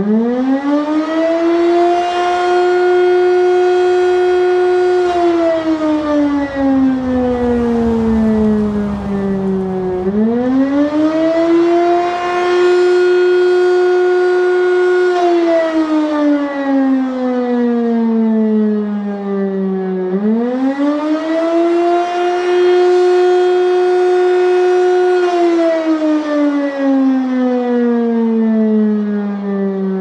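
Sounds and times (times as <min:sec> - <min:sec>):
air-raid siren wailing: 0:00.0 - 0:30.0.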